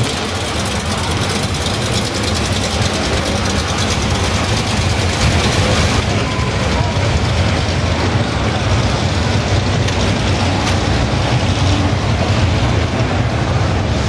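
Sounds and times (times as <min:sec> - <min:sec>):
car engines rumbling: 0:00.0 - 0:14.0.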